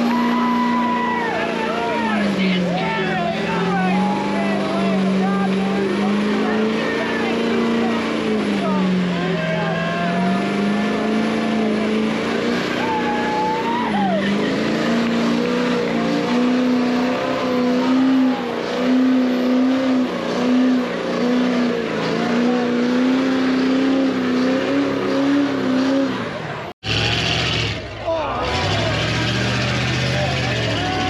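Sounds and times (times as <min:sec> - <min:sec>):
vehicle engine revving high: 0:00.0 - 0:31.0.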